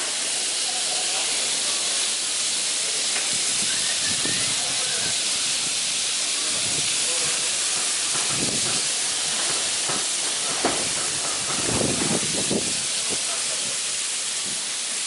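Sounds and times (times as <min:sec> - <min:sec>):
meat sizzling on griddle: 0:00.0 - 0:15.0.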